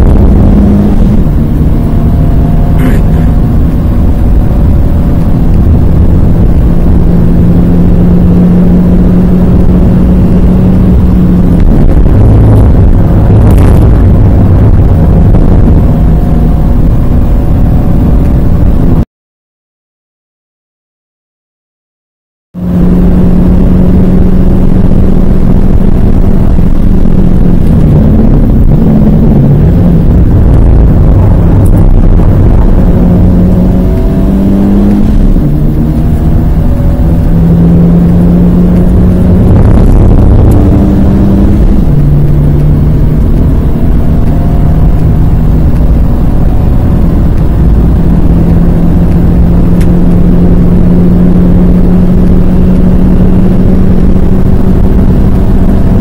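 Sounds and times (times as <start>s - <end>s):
car engine revving high: 0.0s - 19.0s, 22.6s - 56.0s
road and tyre noise: 0.0s - 19.1s, 22.5s - 56.0s.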